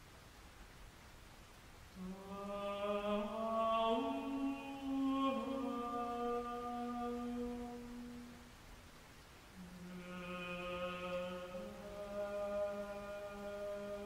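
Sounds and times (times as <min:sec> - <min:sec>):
slow chant-like music: 0:01.9 - 0:08.8, 0:09.5 - 0:14.0.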